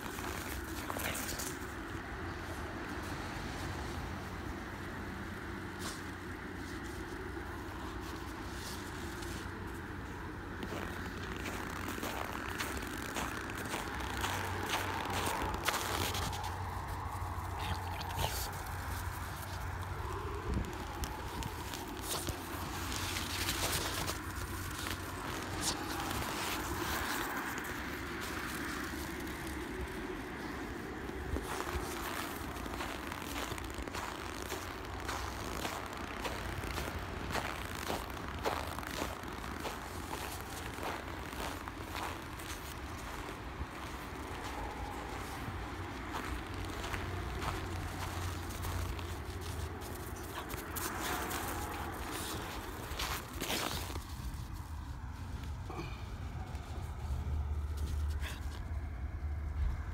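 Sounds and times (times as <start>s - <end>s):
footsteps crunching in snow: 0.0s - 58.6s.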